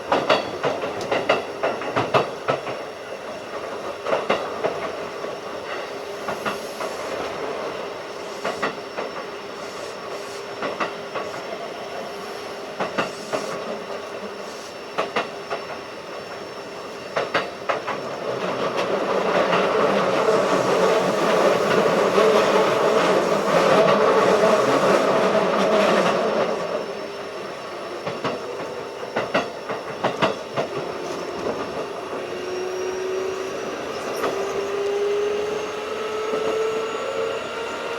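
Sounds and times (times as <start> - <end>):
electric train running hum: 0.0 - 37.9
train wheels clicking over rail joints: 0.1 - 16.5, 17.1 - 26.9, 27.9 - 32.4.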